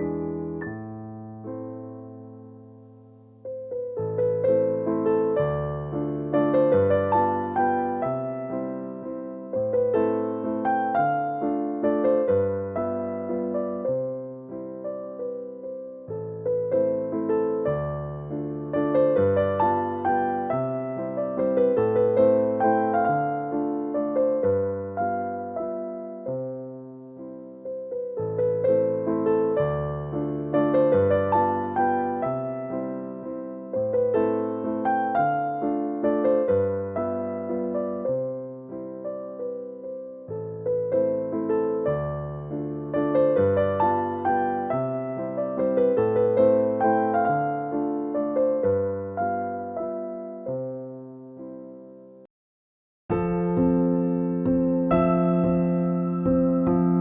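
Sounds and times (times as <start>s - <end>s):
slow gentle piano piece: 0.0s - 52.3s, 53.1s - 57.0s.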